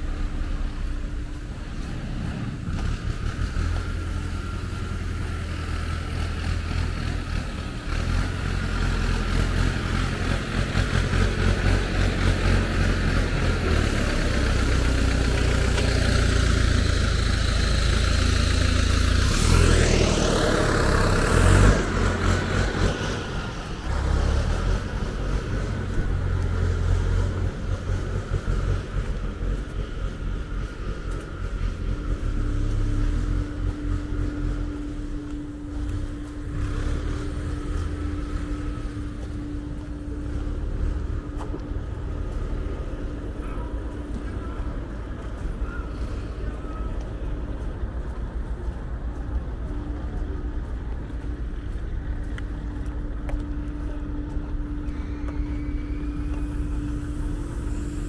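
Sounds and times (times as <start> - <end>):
machine whine: 0.0 - 47.6, 49.8 - 58.0
sawmill machinery rumbling: 0.0 - 58.0.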